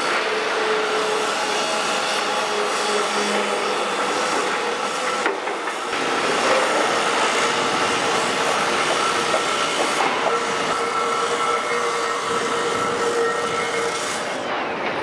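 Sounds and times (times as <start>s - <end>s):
gear whine and squeal: 0.0s - 5.3s, 6.4s - 14.7s
steel wheels rumbling on rail: 0.0s - 15.0s.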